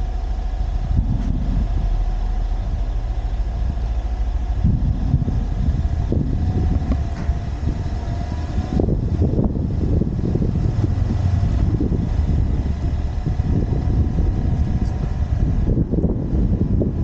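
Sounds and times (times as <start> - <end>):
road noise rumble: 0.0 - 17.0
wind buffeting microphone: 0.0 - 17.0.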